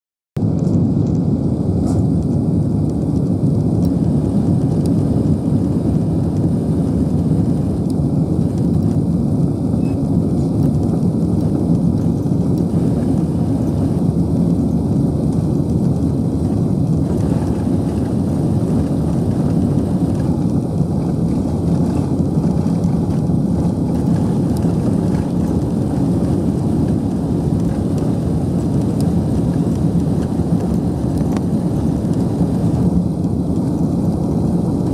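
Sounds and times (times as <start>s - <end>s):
jet engines low rumble: 0.4s - 34.9s.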